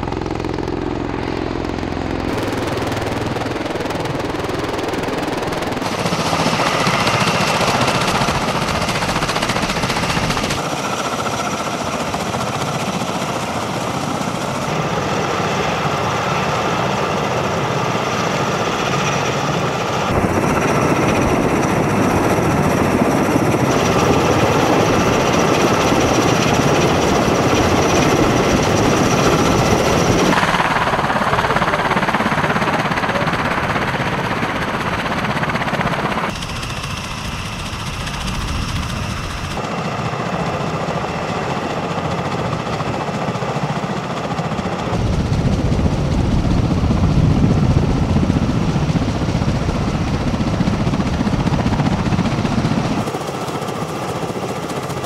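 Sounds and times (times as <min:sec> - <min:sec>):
aircraft engines droning: 0:00.0 - 0:55.0.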